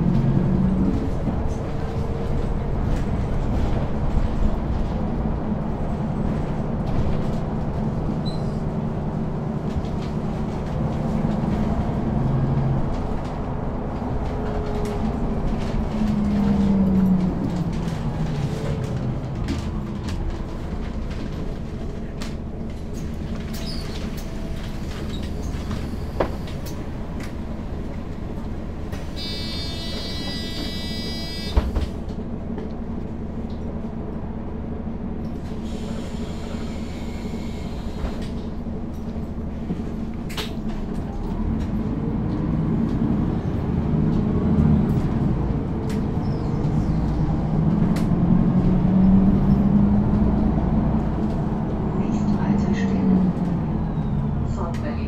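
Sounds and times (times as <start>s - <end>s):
bus engine and road drone: 0.0s - 55.0s.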